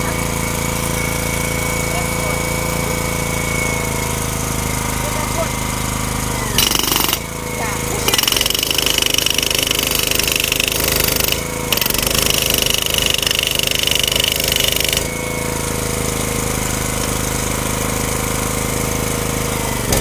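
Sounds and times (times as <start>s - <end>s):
jackhammer hammering: 0.0s - 20.0s.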